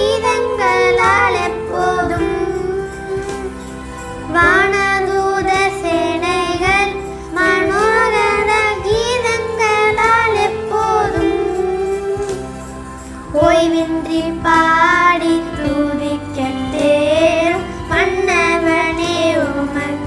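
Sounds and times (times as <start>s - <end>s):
high childlike singing voice: 0.0s - 12.4s, 13.3s - 20.0s
instrumental accompaniment: 0.0s - 20.0s.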